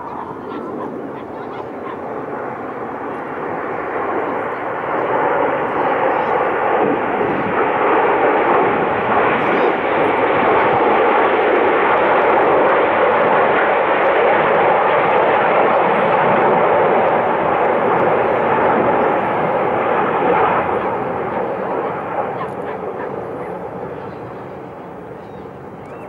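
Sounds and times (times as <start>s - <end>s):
jets flying past: 0.0s - 25.9s.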